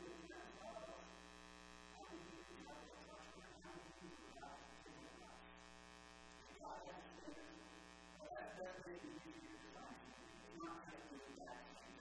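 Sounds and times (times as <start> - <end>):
faint electrical buzz: 0.0 - 12.0.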